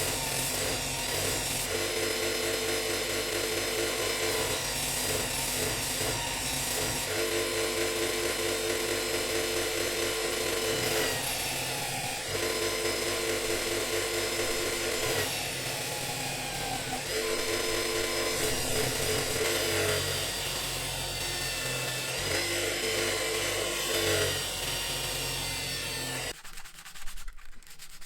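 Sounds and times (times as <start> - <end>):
electric power tool running: 0.0 - 26.4.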